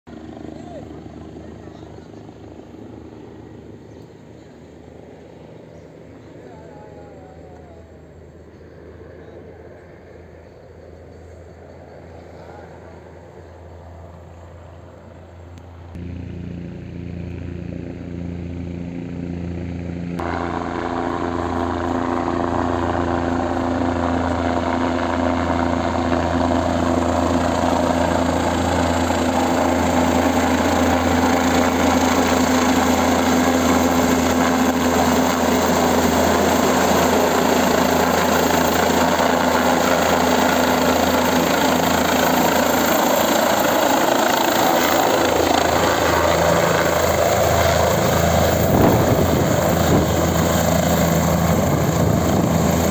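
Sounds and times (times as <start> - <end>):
helicopter rotor and engine: 0.1 - 52.9.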